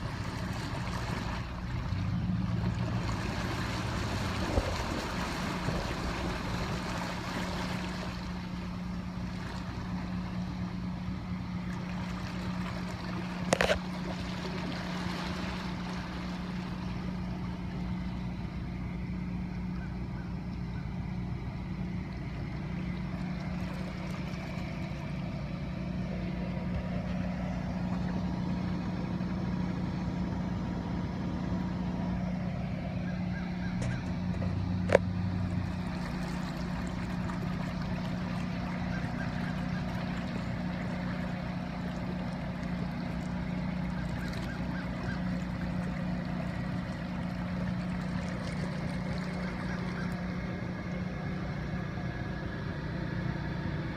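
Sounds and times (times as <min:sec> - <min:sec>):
engine low hum: 0:00.0 - 0:53.9
wind and water noise: 0:00.0 - 0:53.9.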